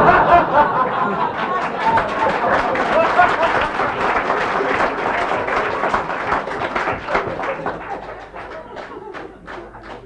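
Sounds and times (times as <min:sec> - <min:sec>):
audience clapping: 0:00.0 - 0:10.0
audience laughing: 0:00.0 - 0:10.0.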